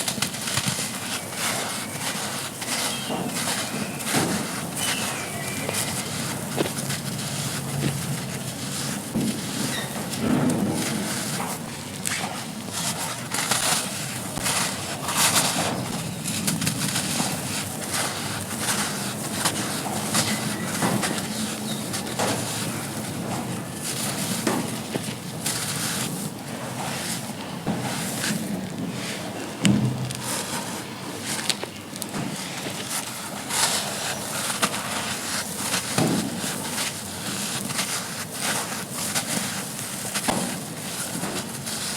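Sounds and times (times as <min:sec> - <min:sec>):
charcoal chalk crunching: 0:00.0 - 0:41.9
gritty rustle: 0:00.0 - 0:41.9.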